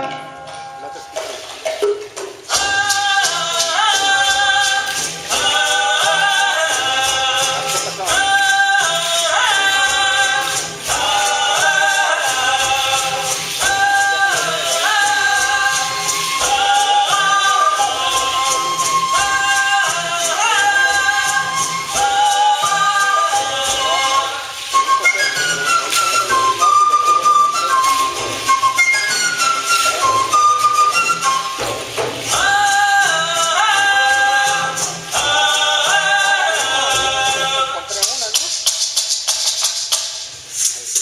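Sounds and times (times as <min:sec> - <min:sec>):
fast percussion beat: 0:00.9 - 0:41.0
group of voices singing: 0:02.4 - 0:38.2.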